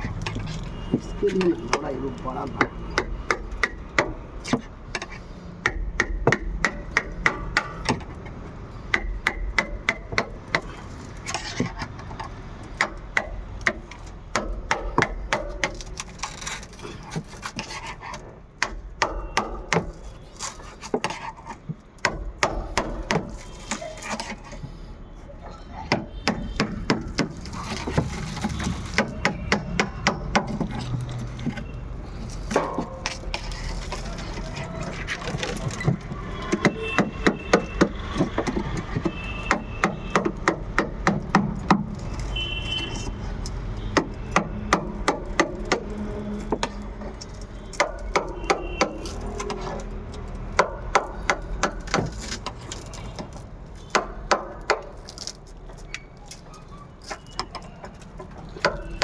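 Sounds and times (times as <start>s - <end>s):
sharp knocks and taps: 0.0s - 24.8s, 25.9s - 56.4s, 57.0s - 59.0s.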